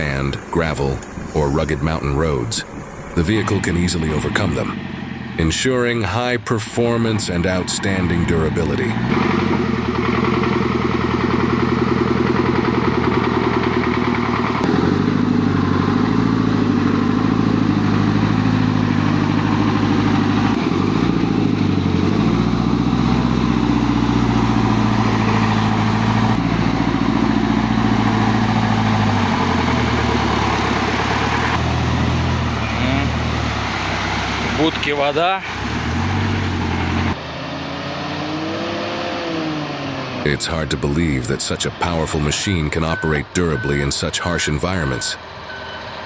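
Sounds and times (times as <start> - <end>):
truck engine under load: 0.0 - 46.0.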